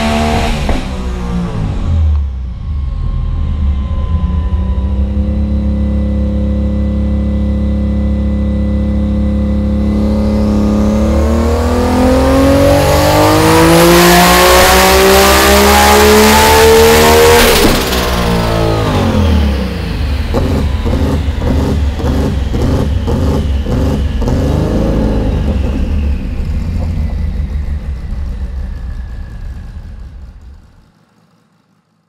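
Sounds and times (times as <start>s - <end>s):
car engine revving on dyno: 0.0s - 31.0s.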